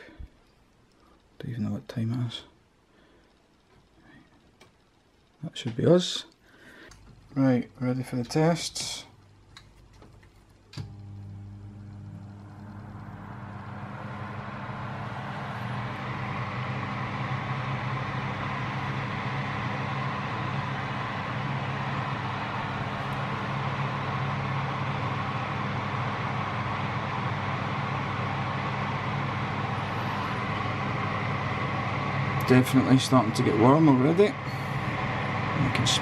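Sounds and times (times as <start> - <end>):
oven fan motor humming: 0.0 - 36.0.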